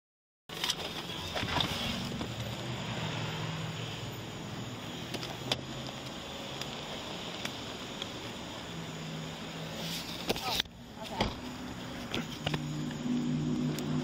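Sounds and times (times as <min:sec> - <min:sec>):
car engine idling: 0:00.5 - 0:14.0
faint street noise hiss: 0:00.5 - 0:14.0.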